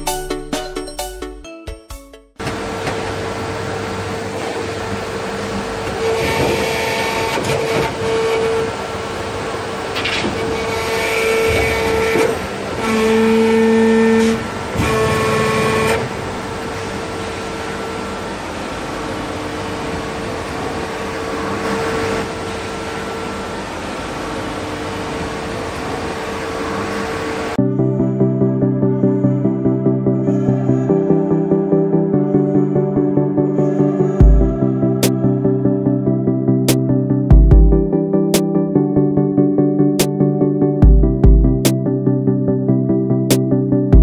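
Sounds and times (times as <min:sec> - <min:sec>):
lower motor tone: 0:02.4 - 0:43.3.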